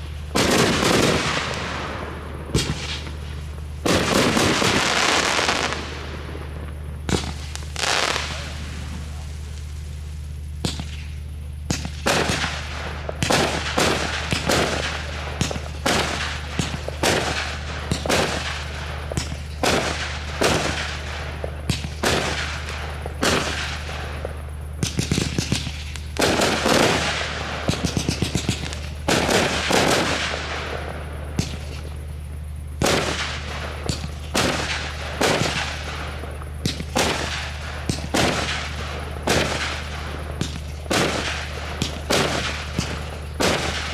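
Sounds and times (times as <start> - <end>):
fireworks bangs: 0.0 - 43.9
steady low hum: 0.0 - 43.9.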